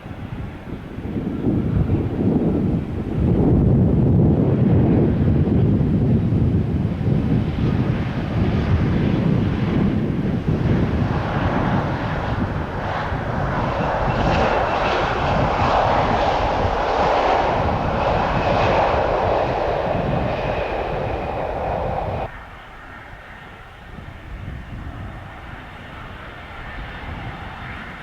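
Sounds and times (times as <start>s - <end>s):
high fan whine: 0.0s - 24.8s
jet airliner engine rush: 0.0s - 28.0s.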